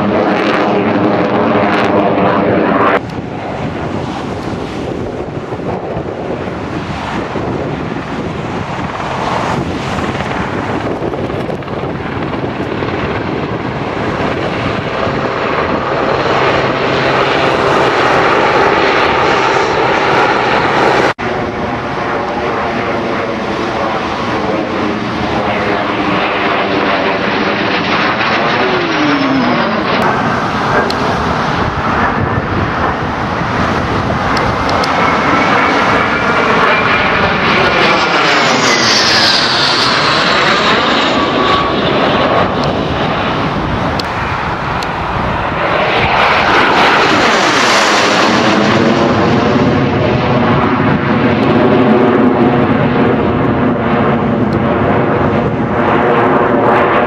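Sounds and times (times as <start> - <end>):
jet aircraft flying past: 0.0 - 57.0.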